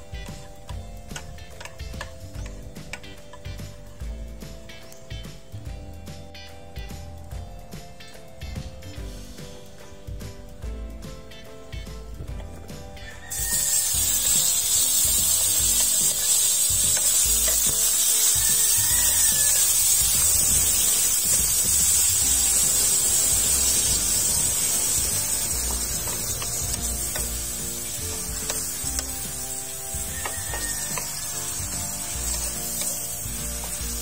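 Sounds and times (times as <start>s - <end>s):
tomatoes sizzling in oil: 0.0s - 7.8s, 12.7s - 34.0s.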